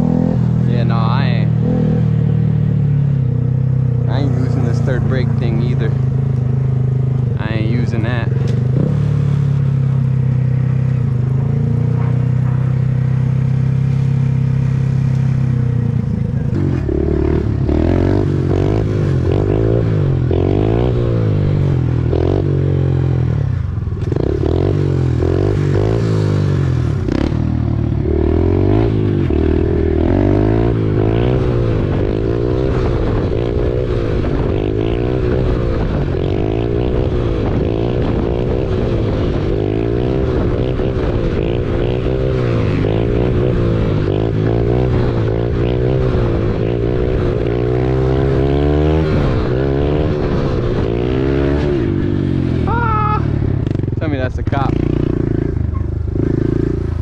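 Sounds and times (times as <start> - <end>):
dirt bike engine revving: 0.0 - 23.4, 24.0 - 57.0.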